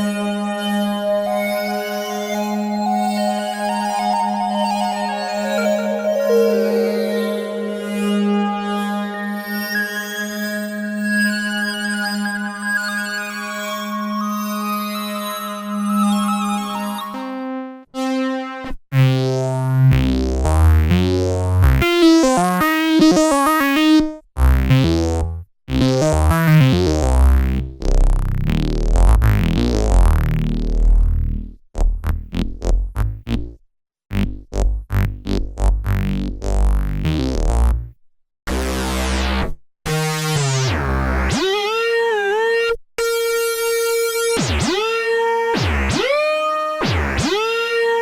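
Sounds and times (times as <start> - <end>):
synthesizer chords and bass: 2.8 - 12.6, 17.3 - 48.0.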